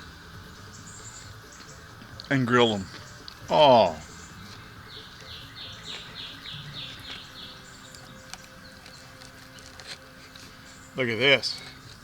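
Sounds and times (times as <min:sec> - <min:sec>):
bird singing down-slurred notes: 0:00.5 - 0:12.0.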